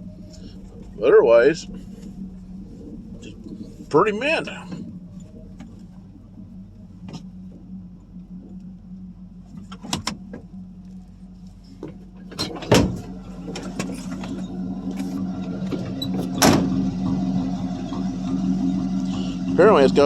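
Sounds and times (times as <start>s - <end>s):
car engine idling: 0.0s - 20.0s
engine knocks and clatters: 0.0s - 20.0s.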